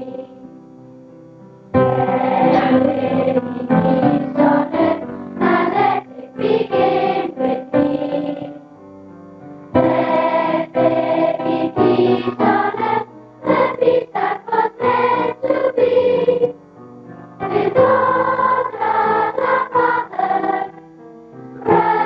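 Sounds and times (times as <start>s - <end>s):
children's choir singing: 0.0s - 0.4s, 1.8s - 8.6s, 9.8s - 16.6s, 17.4s - 20.8s, 21.6s - 22.0s.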